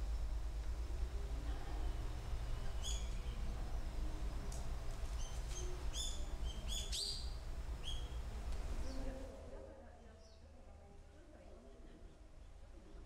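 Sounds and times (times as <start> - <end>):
low steady rumble: 0.0 - 11.7.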